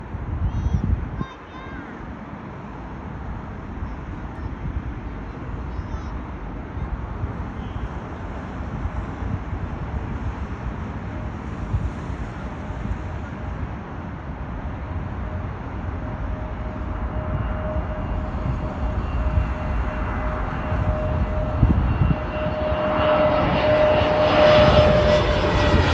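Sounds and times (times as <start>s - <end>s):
jet airliner engine noise: 0.0s - 25.9s
steady engine whine: 2.0s - 25.9s.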